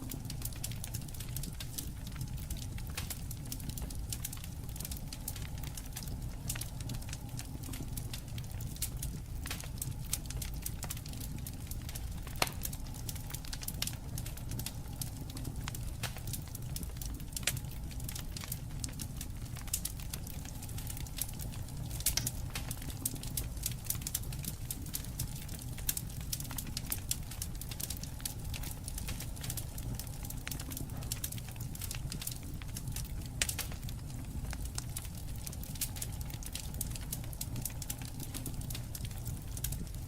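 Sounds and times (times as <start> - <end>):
low rumble of flame: 0.0 - 40.0
popping of fire: 0.0 - 40.0
wood fire crackling: 0.0 - 40.0.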